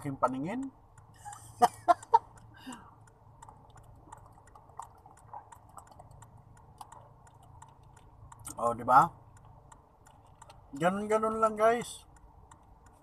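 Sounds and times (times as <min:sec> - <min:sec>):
sharp clicks: 0:00.0 - 0:13.0.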